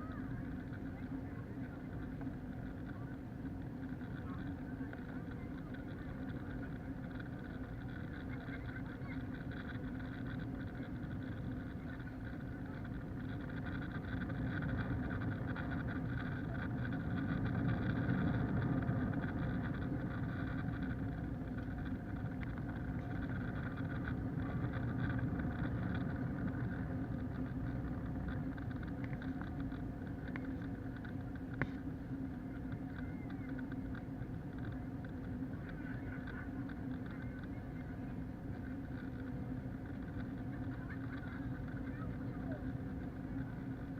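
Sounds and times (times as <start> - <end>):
aircraft cabin engine drone: 0.0 - 43.9.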